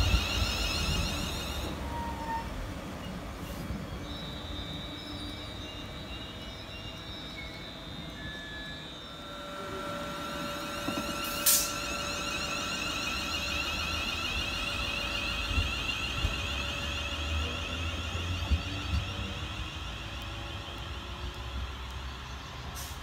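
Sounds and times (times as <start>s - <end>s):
electric train high-pitched whine: 0.0s - 23.0s
wheels rumbling on rails: 0.0s - 23.0s.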